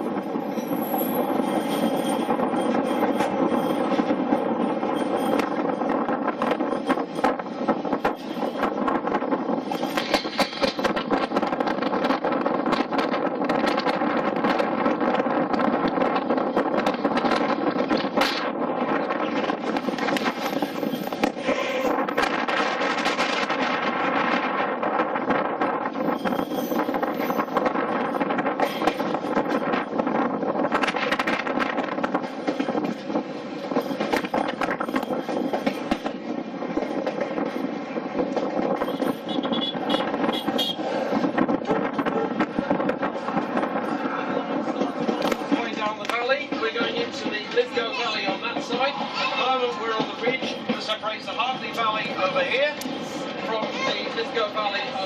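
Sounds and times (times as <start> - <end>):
rush of wheel and wind noise: 0.0 - 55.0
wheels clicking on rails: 0.0 - 55.0.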